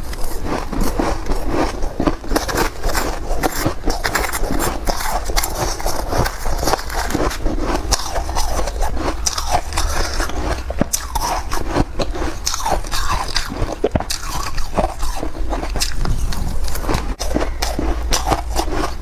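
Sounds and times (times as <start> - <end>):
crunching and chewing frost: 0.0 - 19.0.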